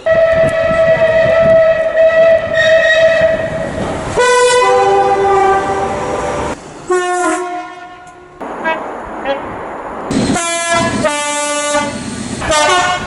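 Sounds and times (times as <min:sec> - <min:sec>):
high train horn note: 0:00.0 - 0:03.6, 0:04.2 - 0:09.4, 0:10.3 - 0:13.0
two-tone train horn: 0:00.0 - 0:03.6, 0:04.2 - 0:08.8, 0:10.4 - 0:13.0.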